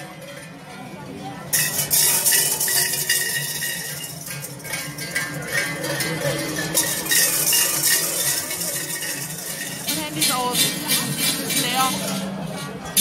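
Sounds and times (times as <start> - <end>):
crowd murmur: 0.0 - 13.0
large metal bells clanging: 0.0 - 13.0.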